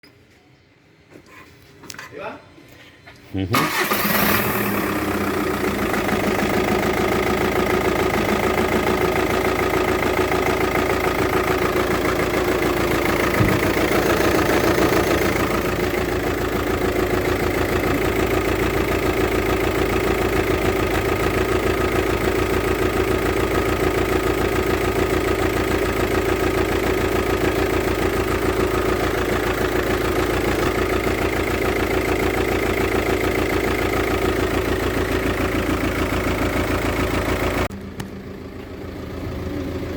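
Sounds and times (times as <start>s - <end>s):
diesel engine idling: 3.6s - 39.9s.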